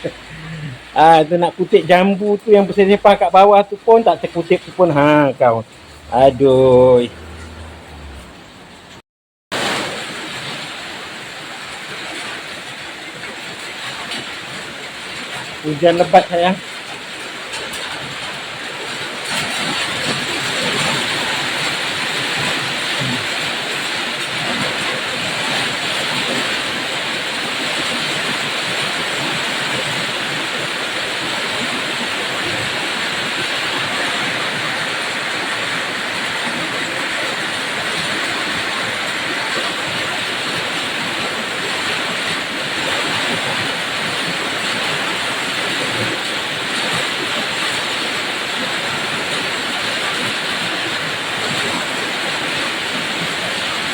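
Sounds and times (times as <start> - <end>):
heavy rain falling: 0.0 - 9.0, 9.6 - 53.9.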